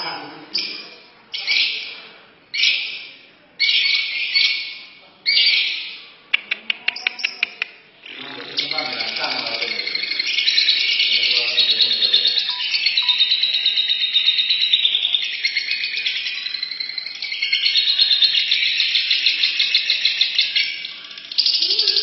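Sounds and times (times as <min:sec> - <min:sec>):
lovebirds chattering: 0:00.0 - 0:22.0.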